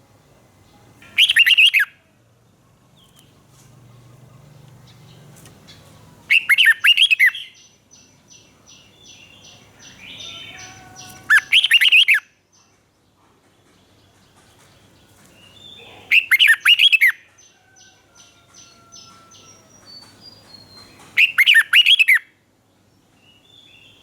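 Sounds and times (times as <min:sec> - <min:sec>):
bird singing warbled phrases: 0:00.7 - 0:02.1, 0:03.0 - 0:12.9, 0:14.0 - 0:24.0
faint high bird calls: 0:00.7 - 0:02.1, 0:03.0 - 0:12.8, 0:14.4 - 0:22.4.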